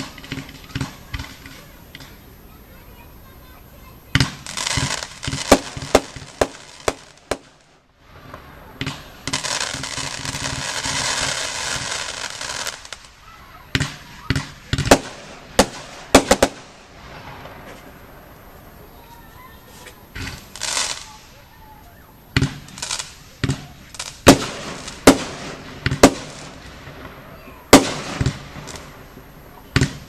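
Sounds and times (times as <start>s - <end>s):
fireworks bangs: 0.0s - 30.0s
fireworks rushing noise: 0.0s - 30.0s.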